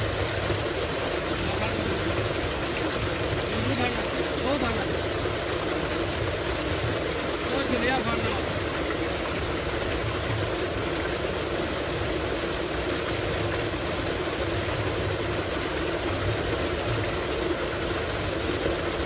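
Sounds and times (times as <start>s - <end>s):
water gushing into concrete tank: 0.0s - 19.0s.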